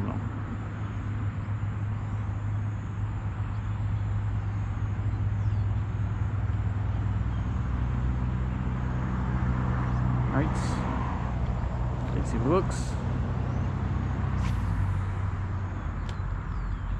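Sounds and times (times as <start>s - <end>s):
vehicle engine hum: 0.0s - 16.9s.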